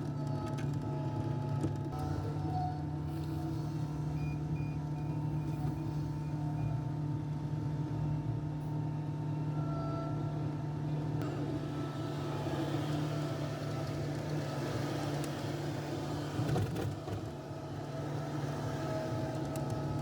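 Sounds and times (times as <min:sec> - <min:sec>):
diesel machinery hum: 0:00.0 - 0:20.0.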